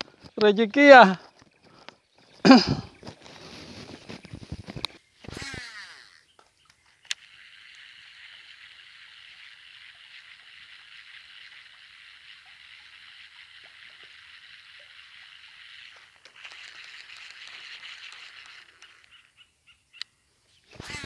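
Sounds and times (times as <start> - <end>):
fishing reel whirring: 0.9 - 19.4, 20.7 - 21.0.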